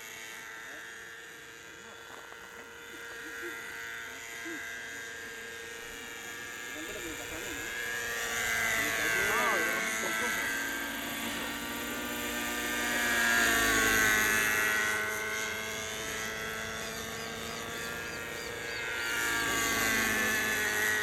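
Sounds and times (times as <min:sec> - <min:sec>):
rc helicopter engine and rotor: 0:00.0 - 0:21.0.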